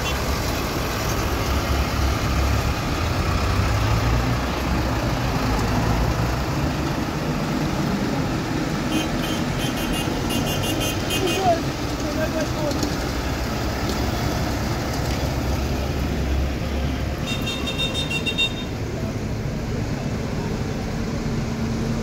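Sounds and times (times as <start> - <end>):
tractor diesel engines rumbling: 0.0 - 22.0.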